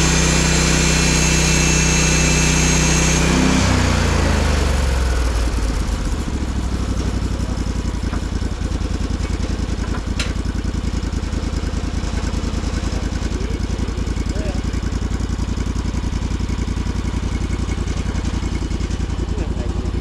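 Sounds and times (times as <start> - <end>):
sawmill engine idling: 0.0 - 20.0.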